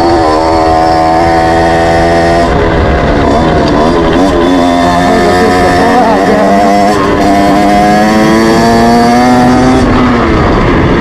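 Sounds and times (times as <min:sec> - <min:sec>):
dense low rumble: 0:00.0 - 0:11.0
moped engine under throttle: 0:00.0 - 0:11.0.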